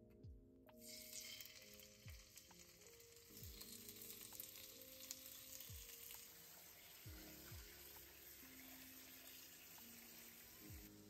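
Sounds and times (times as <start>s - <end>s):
chicken sizzling in oil: 0.8s - 11.0s.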